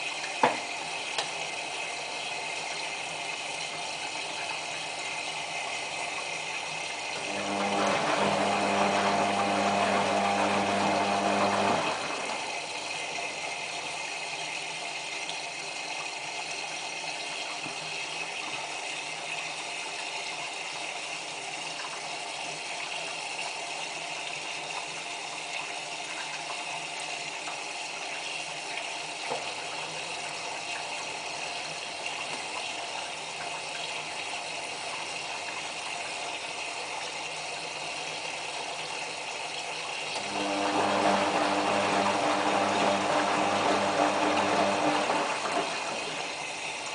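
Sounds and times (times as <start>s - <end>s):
mechanical hum: 0.0s - 46.9s
water running into washing machine: 0.0s - 46.9s.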